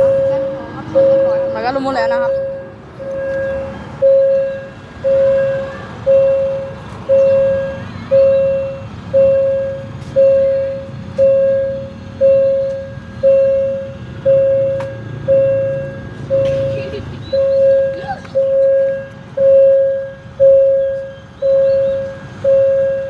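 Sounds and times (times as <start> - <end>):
level crossing alarm beeping: 0.0 - 23.0
low traffic rumble: 0.0 - 23.0.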